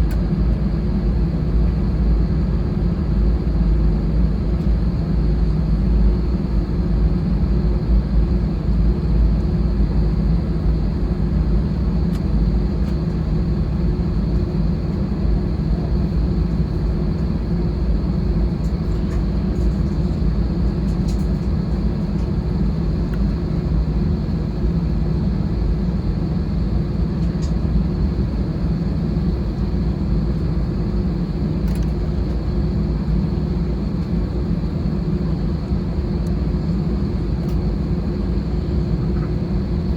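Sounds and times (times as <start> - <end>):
cabin air-conditioning hum: 0.0 - 39.9
jet engines running at low power: 0.0 - 39.9.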